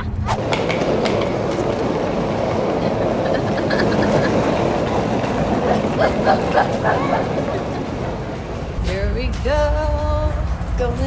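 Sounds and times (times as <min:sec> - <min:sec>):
clacks: 0:00.4 - 0:10.8
suitcase wheels rumbling on concrete: 0:00.4 - 0:11.0.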